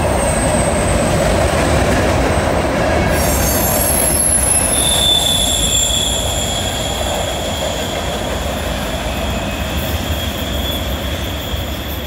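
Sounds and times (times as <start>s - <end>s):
train wheels squealing: 0.0s - 1.2s, 2.2s - 12.0s
steel wheels rumbling on rails: 0.0s - 12.0s.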